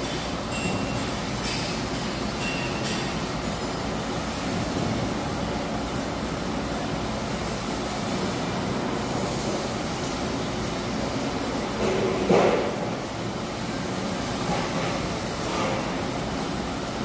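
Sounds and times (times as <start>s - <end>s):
construction site noise: 0.0s - 17.0s.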